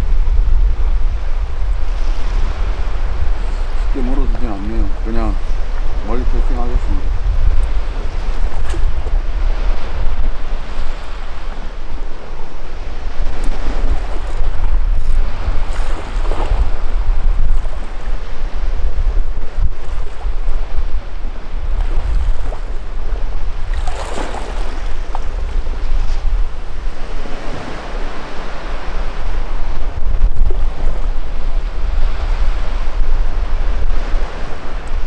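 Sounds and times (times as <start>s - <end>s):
wind rumble on microphone: 0.0s - 35.0s
sea waves washing against rocks: 0.2s - 35.0s.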